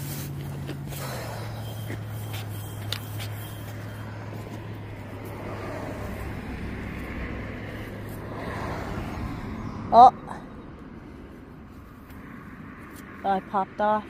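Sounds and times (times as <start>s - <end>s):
road traffic engine hum: 0.0s - 14.0s
tyre and road noise: 0.0s - 14.0s.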